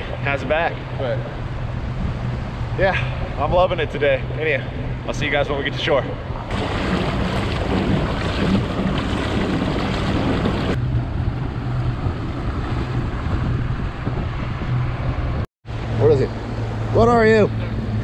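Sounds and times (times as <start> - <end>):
wind buffeting microphone: 0.0 - 16.1
motorboat engine humming: 0.0 - 18.0
water rushing along hull: 0.0 - 18.0.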